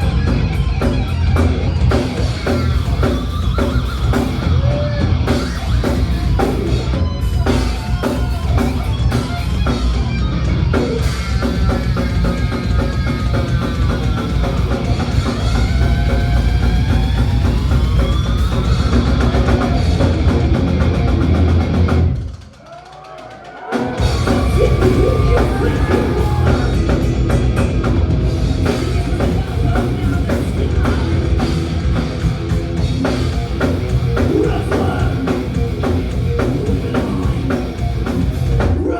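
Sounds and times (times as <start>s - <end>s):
distorted guitars: 0.0s - 38.9s
pounding drums: 0.0s - 38.9s
thrash metal band playing: 0.0s - 38.9s.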